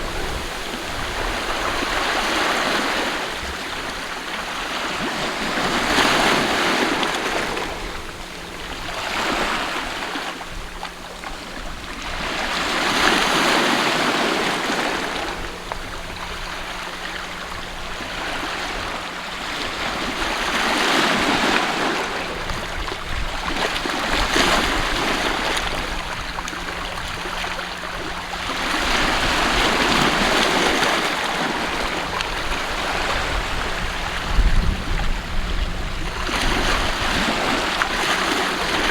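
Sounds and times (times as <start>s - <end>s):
sea waves washing on shore: 0.0s - 38.9s.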